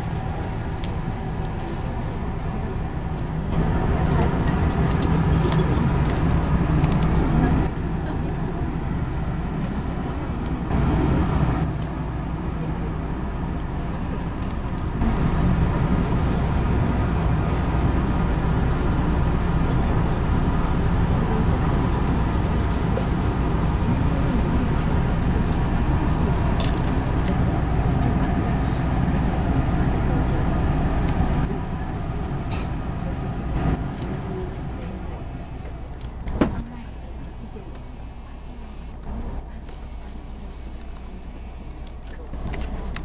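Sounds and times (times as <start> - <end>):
train equipment hum: 0.0 - 43.0.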